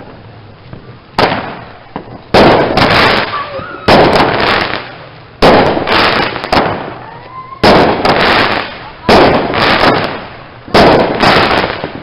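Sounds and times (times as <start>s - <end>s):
firework bangs: 0.0s - 12.0s
firework crackle: 0.0s - 12.0s.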